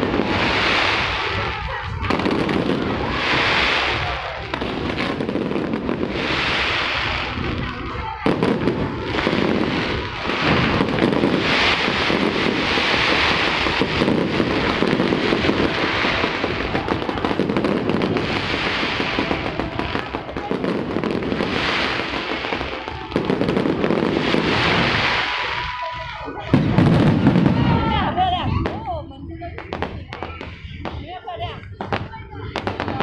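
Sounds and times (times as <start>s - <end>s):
fireworks crackling: 0.0s - 33.0s.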